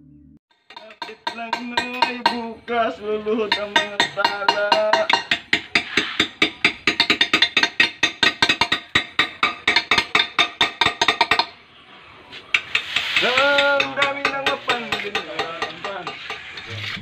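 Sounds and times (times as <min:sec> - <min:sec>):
hammer and chisel tapping stone: 0:00.6 - 0:02.5, 0:03.5 - 0:11.6, 0:12.5 - 0:16.6.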